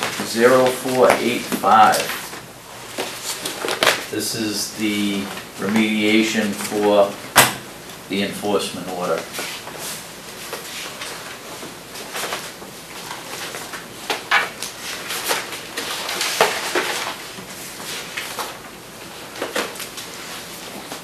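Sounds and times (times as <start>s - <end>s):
paper rustling: 0.0s - 7.2s, 8.8s - 21.0s.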